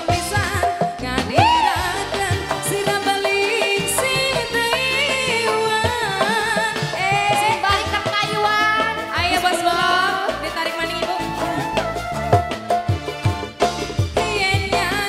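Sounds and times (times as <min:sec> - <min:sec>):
woman singing: 0:00.0 - 0:12.0, 0:14.2 - 0:15.0
electronic keyboard music: 0:00.0 - 0:15.0.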